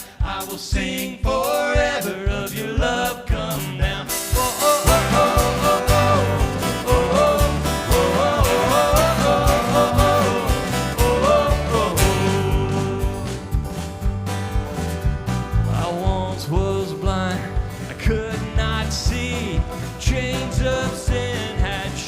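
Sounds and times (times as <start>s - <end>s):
bass: 0.0s - 22.0s
steady drum beat: 0.0s - 22.0s
band music: 1.2s - 22.0s.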